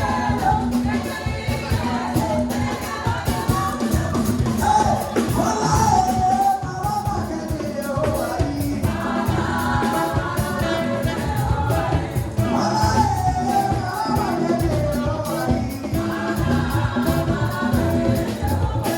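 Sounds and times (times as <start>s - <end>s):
band playing gospel music: 0.0s - 18.9s
group of singers singing: 0.0s - 18.9s.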